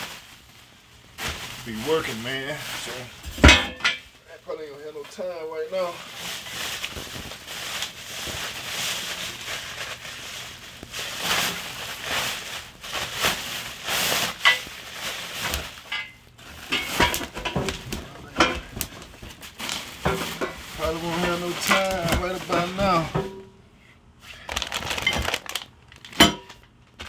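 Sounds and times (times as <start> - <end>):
packaging crinkling: 0.0 - 3.2, 5.7 - 23.3, 24.2 - 27.0.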